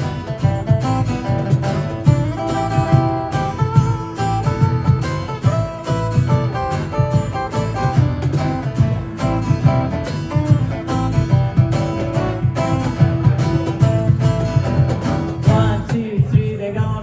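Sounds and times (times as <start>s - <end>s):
picked acoustic guitar melody: 0.0s - 16.6s
cajon beat: 0.0s - 17.0s
strummed guitar: 0.0s - 17.0s.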